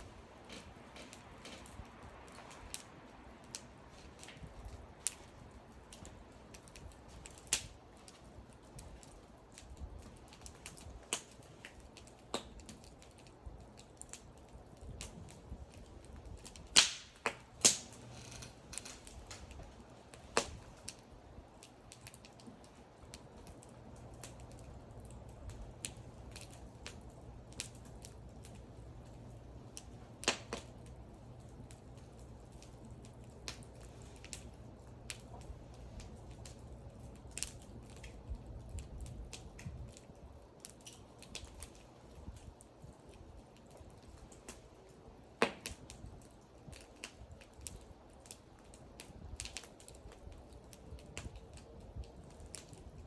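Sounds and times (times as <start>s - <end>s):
loud pops of fire: 0.0s - 53.0s
wood fire crackling: 0.0s - 53.0s.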